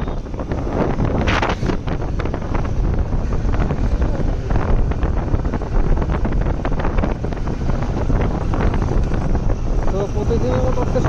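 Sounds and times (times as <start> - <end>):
moving vehicle road noise: 0.0 - 11.0
wind buffeting microphone: 0.0 - 11.0.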